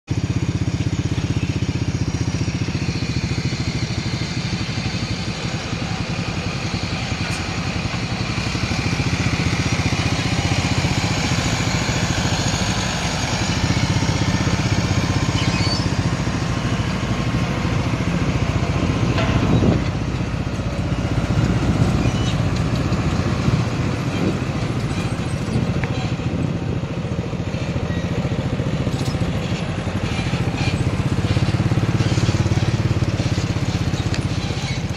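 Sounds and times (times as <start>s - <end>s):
road roller diesel engine: 0.1s - 34.9s.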